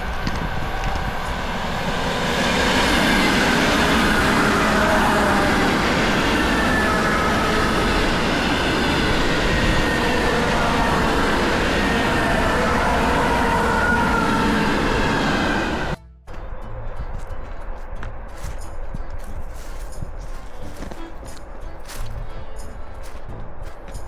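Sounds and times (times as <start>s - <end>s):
loud rumbling and rushing noise: 0.0s - 24.0s.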